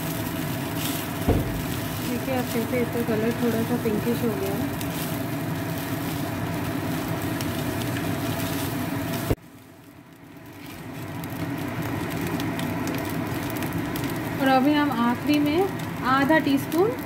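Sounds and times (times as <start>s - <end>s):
fried rice sizzling in pan: 0.0s - 17.0s.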